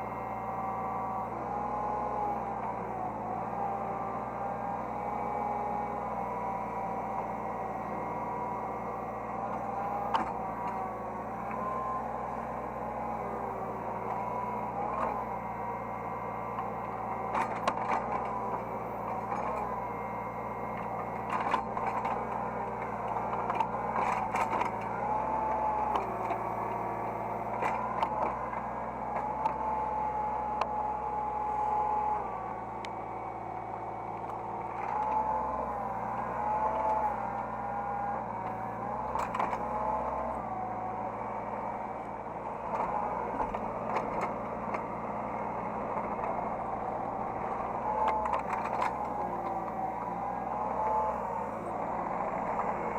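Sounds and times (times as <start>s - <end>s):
excavator engine hum: 0.0s - 52.9s
hydraulic whine: 0.0s - 52.9s.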